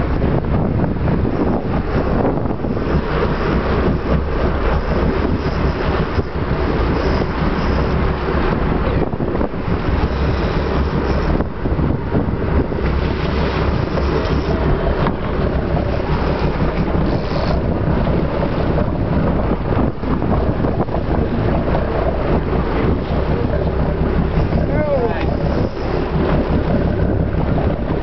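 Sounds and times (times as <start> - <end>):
boat engine rumble: 0.0 - 28.0
rushing water: 0.0 - 28.0
wind buffeting microphone: 0.0 - 28.0.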